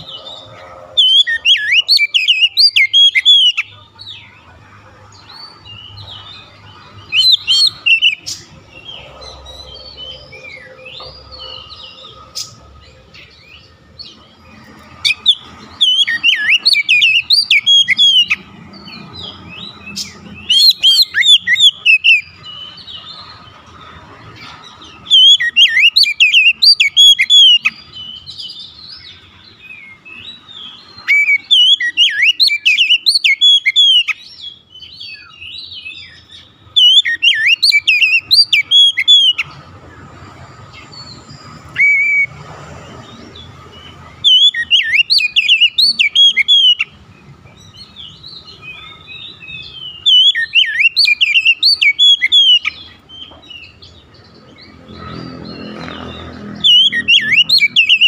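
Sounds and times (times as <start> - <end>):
bird singing whistled notes: 0.0 - 4.2, 5.2 - 14.3, 15.0 - 23.1, 25.0 - 39.6, 40.5 - 42.4, 43.0 - 58.0.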